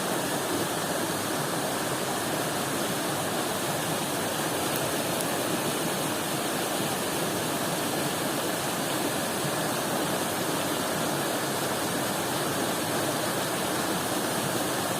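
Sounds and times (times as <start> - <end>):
stream rushing over rocks: 0.0 - 14.9.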